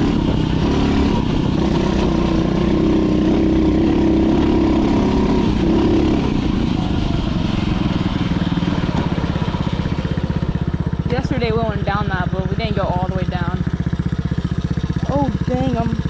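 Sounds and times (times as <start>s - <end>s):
dirt bike engine idling: 0.0s - 16.0s.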